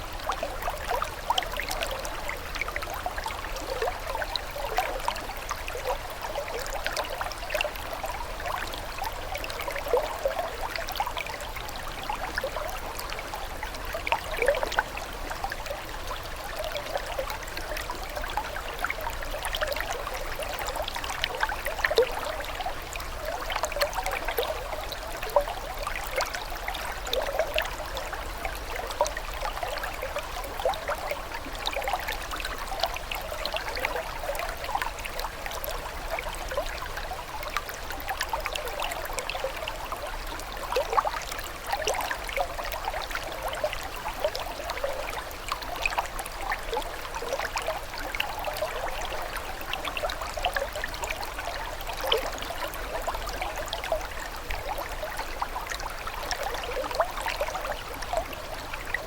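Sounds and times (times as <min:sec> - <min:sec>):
water flowing and bubbling: 0:00.0 - 0:59.0.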